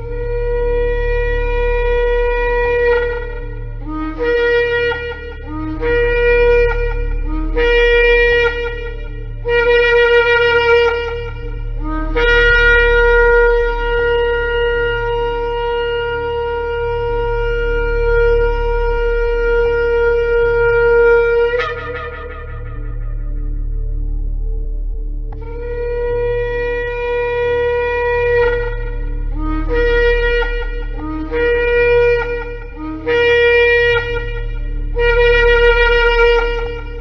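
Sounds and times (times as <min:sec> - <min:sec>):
ram's horn blasts: 0:00.0 - 0:24.3, 0:25.3 - 0:37.0
low hum: 0:00.0 - 0:37.0.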